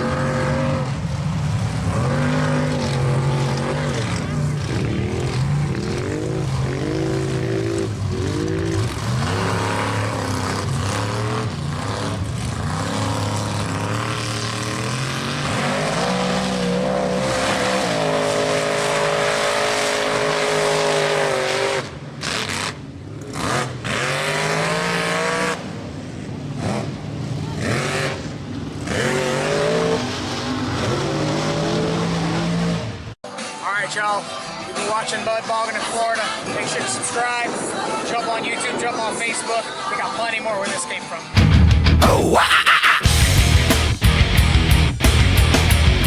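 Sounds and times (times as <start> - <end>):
truck engine revving hard: 0.0 - 33.2, 41.4 - 46.0.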